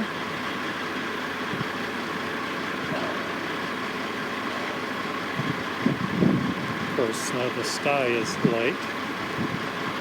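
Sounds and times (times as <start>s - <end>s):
heavy construction engines running: 0.0s - 10.0s.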